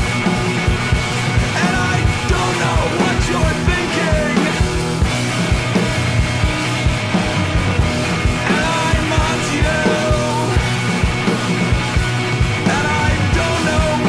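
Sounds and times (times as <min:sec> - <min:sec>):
fast drum beat: 0:00.0 - 0:14.0
rock band playing: 0:00.0 - 0:14.0.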